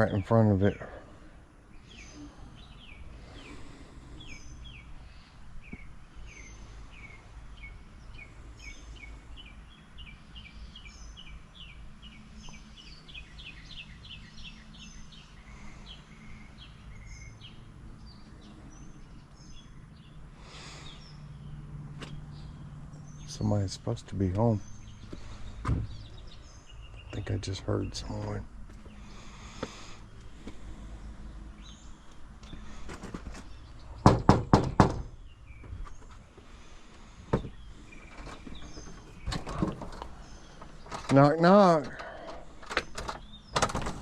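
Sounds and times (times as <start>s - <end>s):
songbirds chirping: 0.0s - 44.0s.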